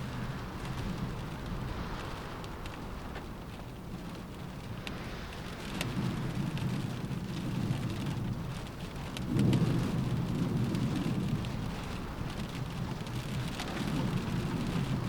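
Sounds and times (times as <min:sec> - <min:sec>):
rain drumming on a car roof: 0:00.0 - 0:15.0.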